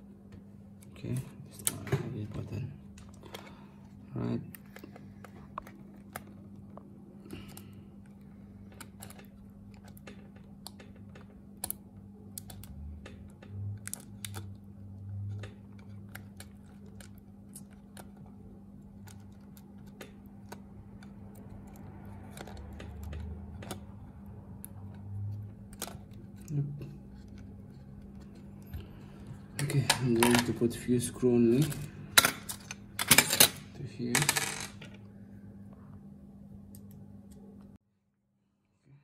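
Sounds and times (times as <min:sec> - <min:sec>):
steady low hum: 0:00.0 - 0:37.8.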